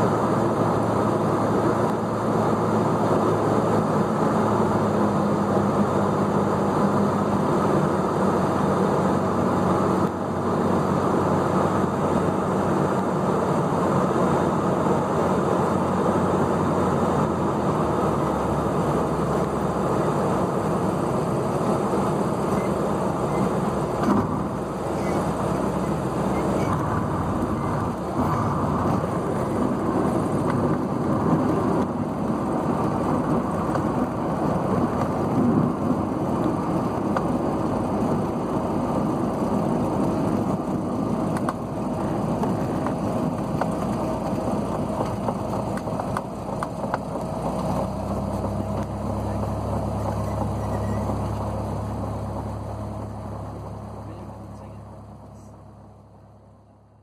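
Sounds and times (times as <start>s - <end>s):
aircraft engine drone: 0.0s - 45.9s
rushing airflow and rolling: 0.0s - 57.0s.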